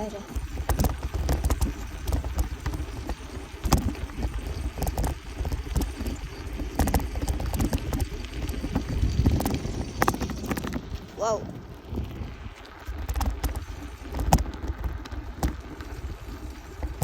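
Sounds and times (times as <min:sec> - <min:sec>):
bicycle rattles and knocks: 0:00.0 - 0:17.0
wind on microphone: 0:00.0 - 0:17.0.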